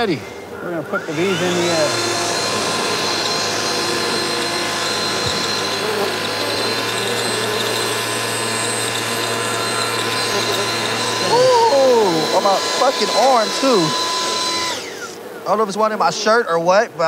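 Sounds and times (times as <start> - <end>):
leaf blower running: 0.0 - 16.2.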